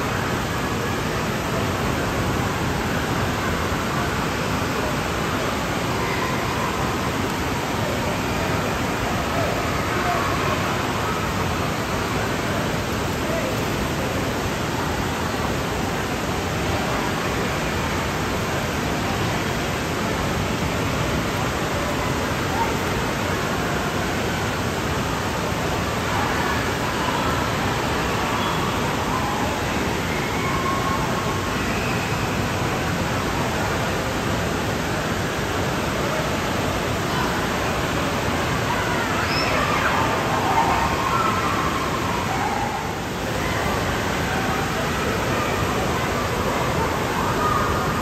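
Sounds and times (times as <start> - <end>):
running water echoing indoors: 0.0 - 48.0.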